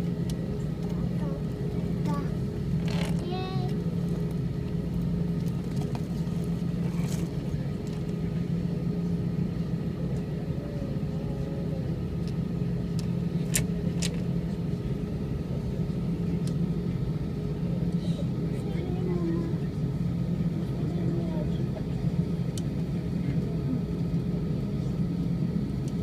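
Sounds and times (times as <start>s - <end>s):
jet engines humming: 0.0s - 26.0s.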